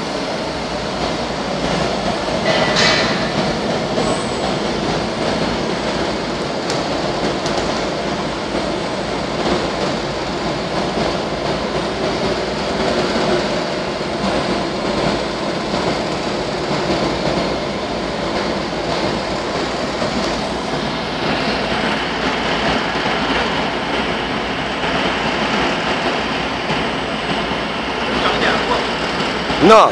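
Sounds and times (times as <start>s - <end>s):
furnace machinery running: 0.0s - 29.9s.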